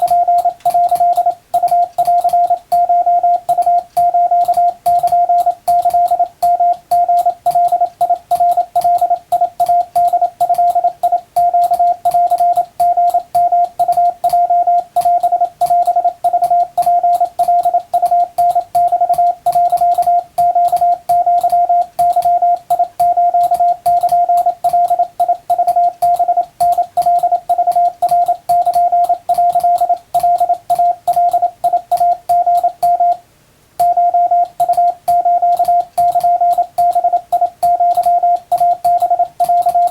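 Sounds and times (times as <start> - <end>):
morse code tone: 0.0 - 33.2, 33.8 - 39.9.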